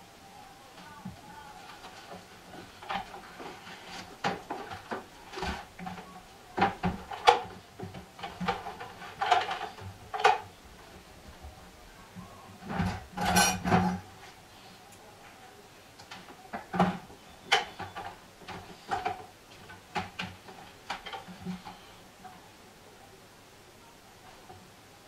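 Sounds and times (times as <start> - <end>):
cables rustling: 0.0 - 23.1.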